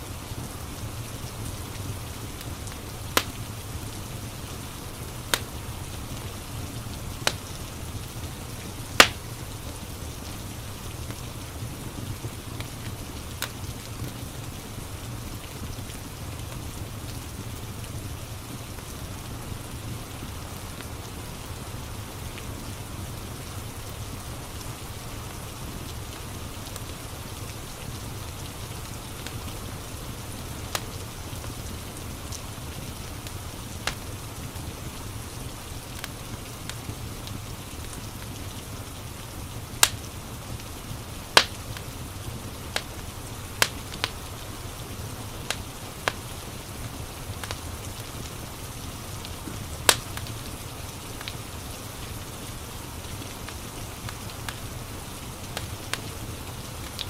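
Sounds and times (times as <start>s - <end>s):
steady rain hiss: 0.0s - 57.0s
wood fire crackling: 0.0s - 57.0s.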